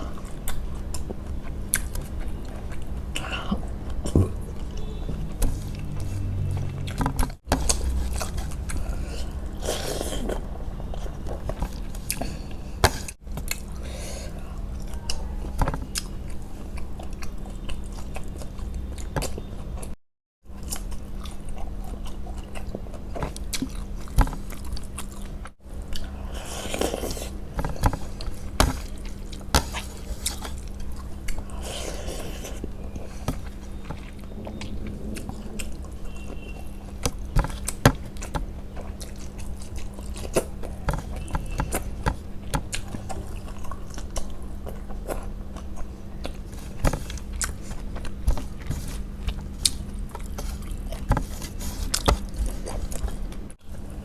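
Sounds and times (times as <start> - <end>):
person chewing food: 0.0 - 20.0, 20.6 - 54.0.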